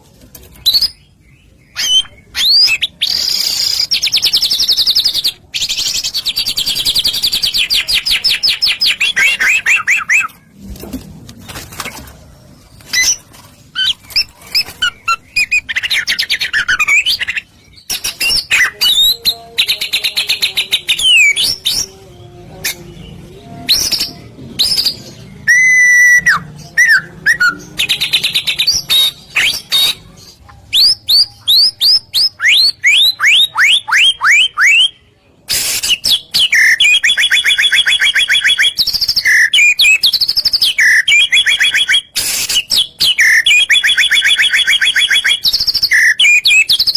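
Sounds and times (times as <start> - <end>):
bird singing varied song: 0.3 - 10.6, 12.6 - 46.9.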